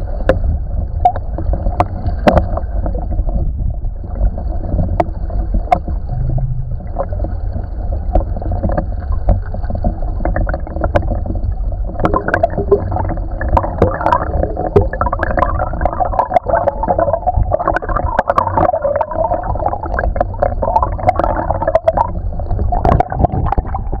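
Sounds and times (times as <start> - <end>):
low rumble: 0.0 - 24.0
underwater creek rushing: 0.0 - 24.0.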